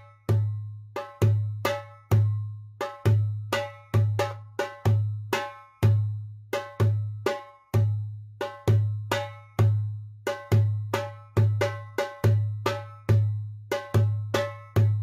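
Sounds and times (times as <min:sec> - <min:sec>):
goblet drum solo: 0:00.0 - 0:15.0.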